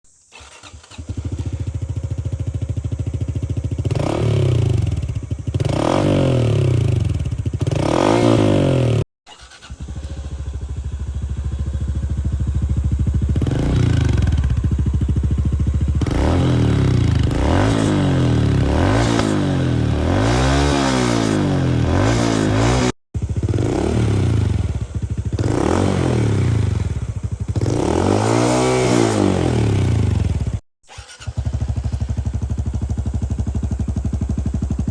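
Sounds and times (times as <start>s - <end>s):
motorcycle engine idling and revving: 0.2s - 34.9s.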